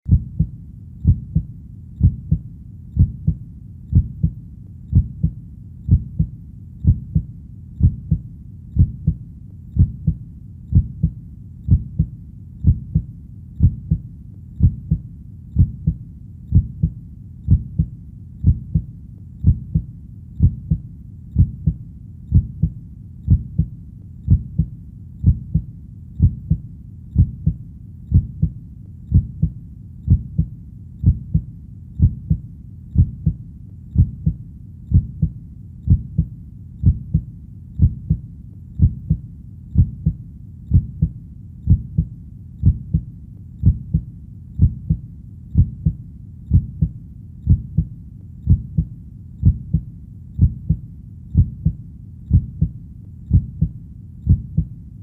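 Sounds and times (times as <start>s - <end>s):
heartbeat lub-dub: 0.1s - 55.0s
low background sound: 0.1s - 55.0s.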